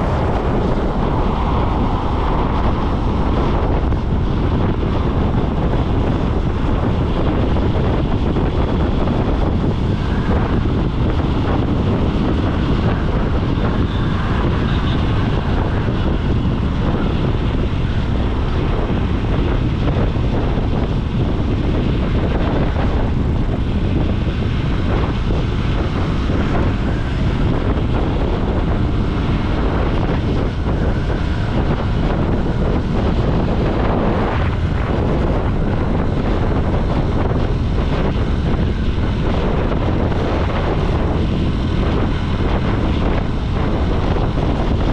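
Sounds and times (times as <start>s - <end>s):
road noise: 0.0s - 44.9s
wind rushing over microphone: 0.0s - 44.9s.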